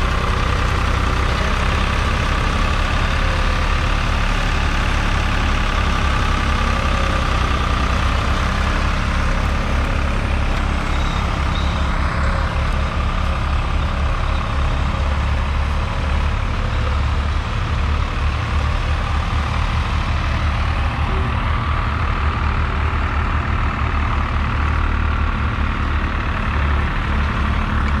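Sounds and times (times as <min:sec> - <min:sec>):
tractor diesel engine rumbling: 0:00.0 - 0:28.0.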